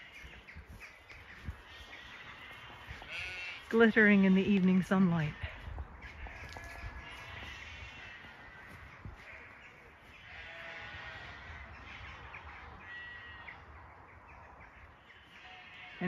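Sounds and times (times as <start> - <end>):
distant birds calling: 0.0 - 16.0.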